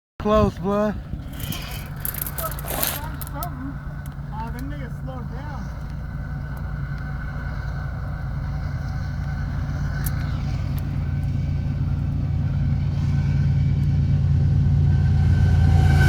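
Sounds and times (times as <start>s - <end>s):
locomotive engine hum: 0.2s - 16.0s.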